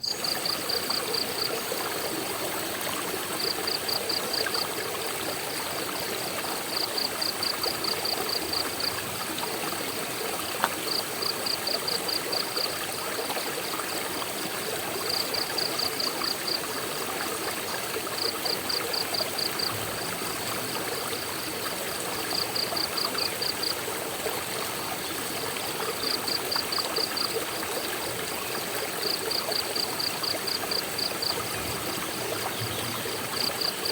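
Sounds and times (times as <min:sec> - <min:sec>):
rushing stream water: 0:00.0 - 0:33.9.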